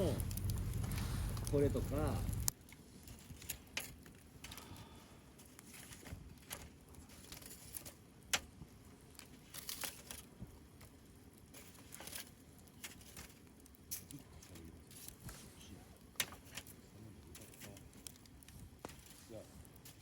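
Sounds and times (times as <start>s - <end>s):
light crinkling: 0.0s - 20.0s.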